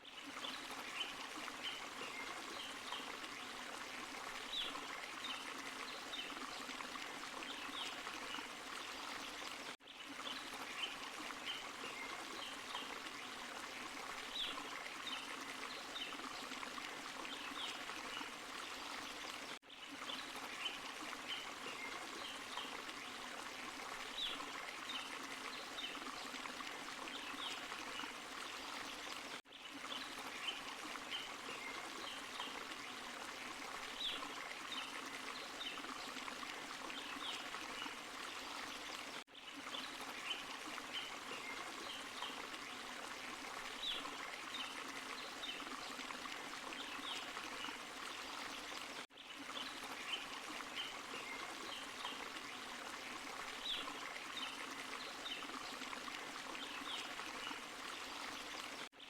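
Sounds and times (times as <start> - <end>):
waterfall and stream rushing: 0.0 - 58.9
water splashes and drips: 0.0 - 59.0.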